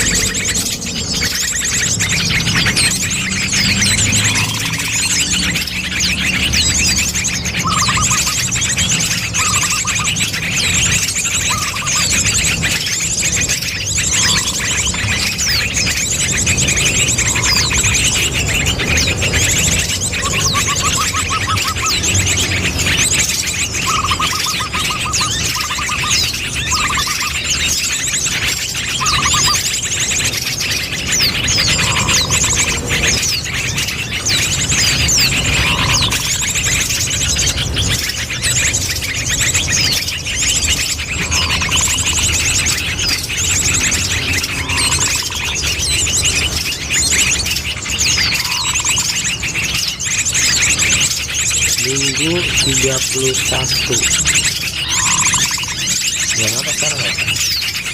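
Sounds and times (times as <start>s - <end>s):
small birds chirping and trilling: 0.0s - 57.9s.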